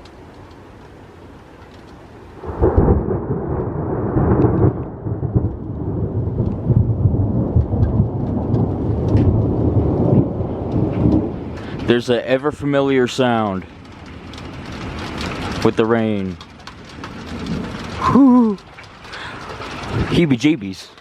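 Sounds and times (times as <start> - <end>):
steady rain: 0.0 - 21.0
ticks of drops or hail: 1.6 - 21.0
thunderclap rumbling: 2.2 - 21.0.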